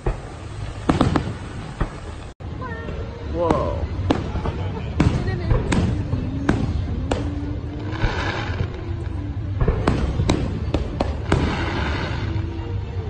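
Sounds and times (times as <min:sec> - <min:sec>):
fireworks bursting: 0:00.0 - 0:02.4, 0:03.5 - 0:12.8.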